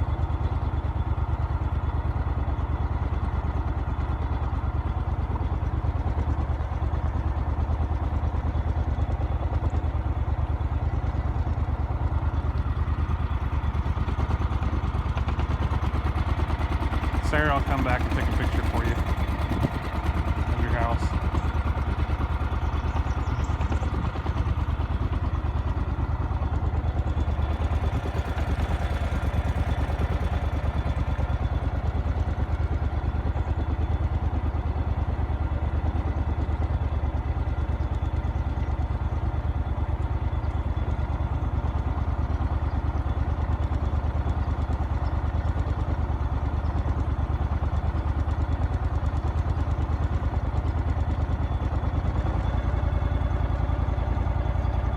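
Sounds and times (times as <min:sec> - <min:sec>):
vehicle engine droning: 0:03.6 - 0:54.9.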